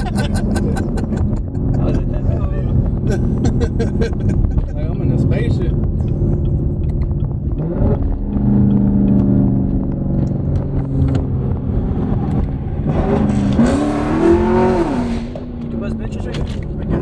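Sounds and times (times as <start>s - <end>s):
car engine drone from inside cabin: 0.0s - 17.0s.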